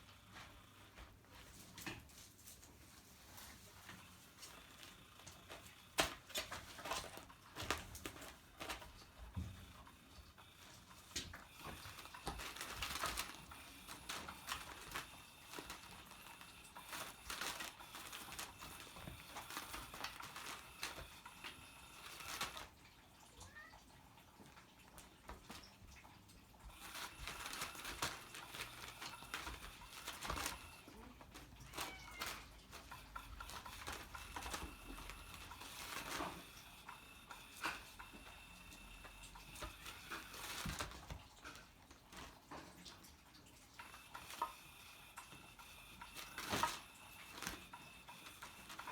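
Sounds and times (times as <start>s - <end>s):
paws on floor: 0.0s - 22.7s, 24.2s - 48.9s
toy clicks and rattles: 3.5s - 42.3s, 43.7s - 48.9s.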